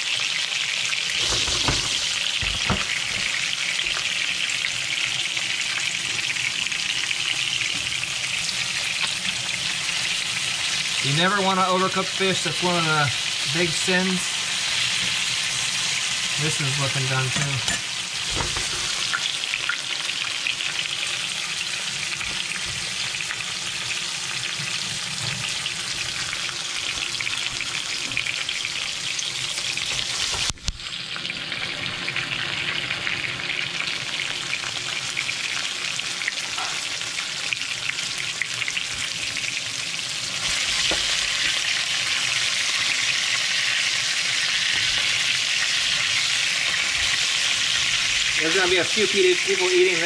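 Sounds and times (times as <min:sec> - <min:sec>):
fish fillets sizzling in oil: 0:00.0 - 0:50.0.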